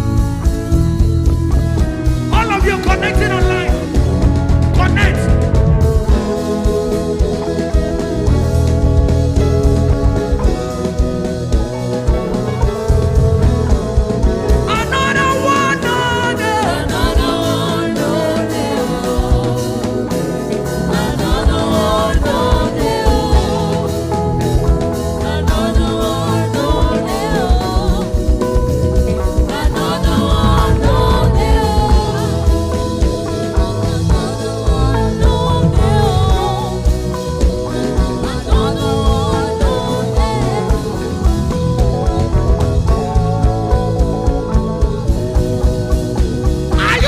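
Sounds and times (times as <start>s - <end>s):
gospel band with drums and guitar: 0.0s - 47.0s.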